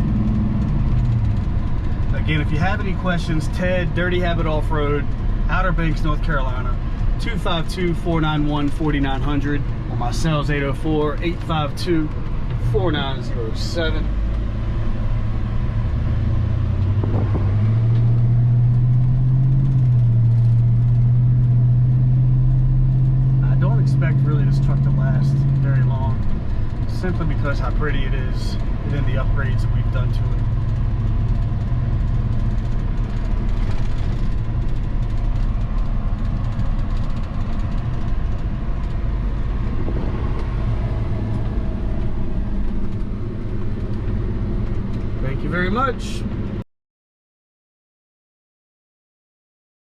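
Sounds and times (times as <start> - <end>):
truck engine droning: 0.0 - 46.6.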